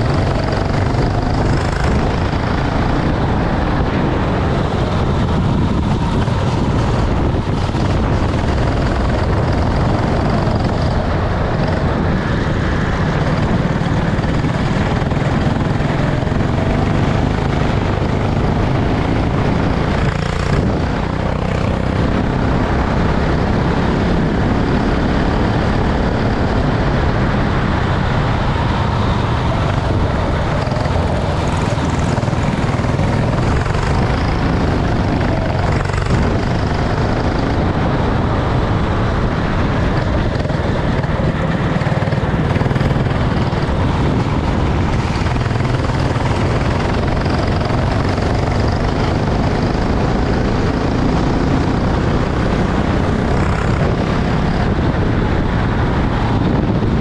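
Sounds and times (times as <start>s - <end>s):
kart engine buzzing: 0.0s - 57.0s.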